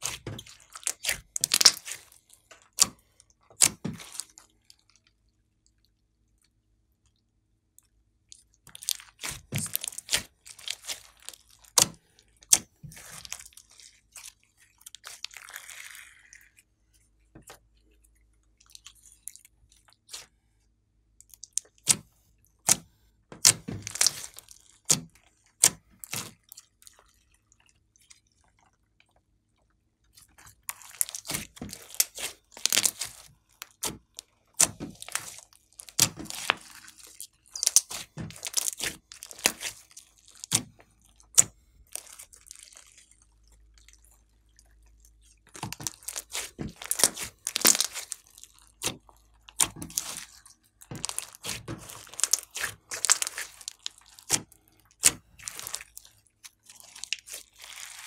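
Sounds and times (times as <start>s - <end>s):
slime squelching: 0.0s - 7.0s, 7.8s - 58.0s.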